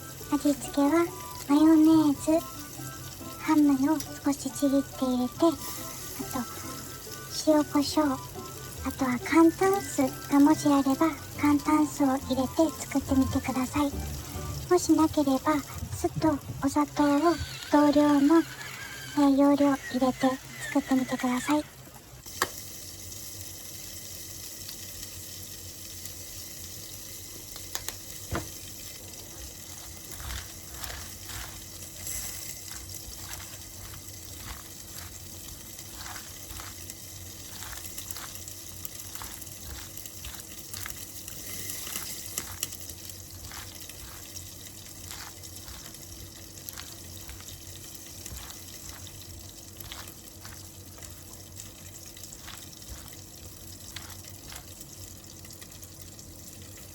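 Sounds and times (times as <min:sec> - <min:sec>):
running water hissing: 0:00.0 - 0:56.9.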